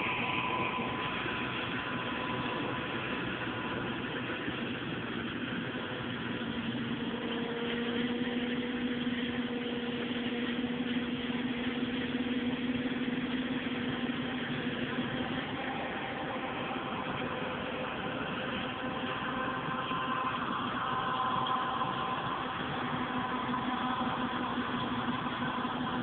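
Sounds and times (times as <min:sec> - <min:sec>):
combine harvester engine drone: 0:00.0 - 0:26.0
low hum: 0:00.0 - 0:26.0.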